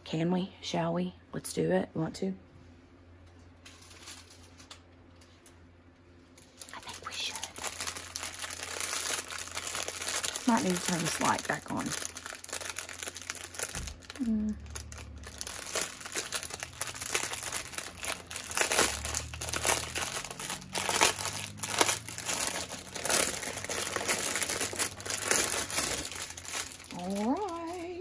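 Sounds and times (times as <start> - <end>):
plastic bags crinkling: 3.6 - 5.4, 6.3 - 28.0.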